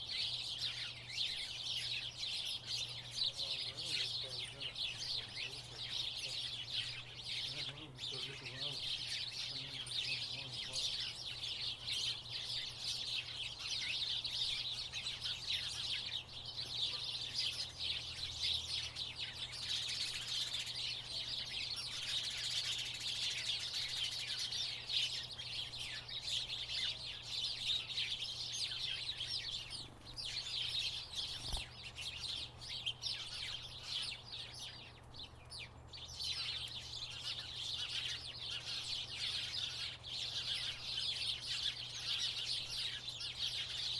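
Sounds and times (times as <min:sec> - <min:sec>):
sparrows chirping: 0:00.0 - 0:43.9.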